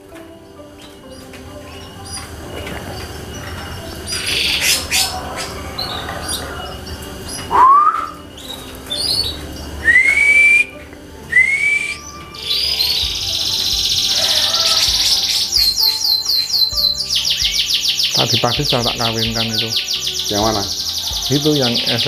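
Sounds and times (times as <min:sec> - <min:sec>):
canaries chirping and trilling: 0:00.0 - 0:22.0
rising whistled notes: 0:00.8 - 0:22.0.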